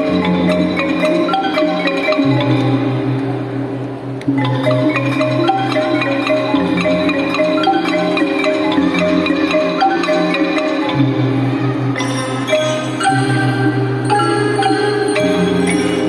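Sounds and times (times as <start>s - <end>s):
marimba mallet melody: 0.0s - 16.0s.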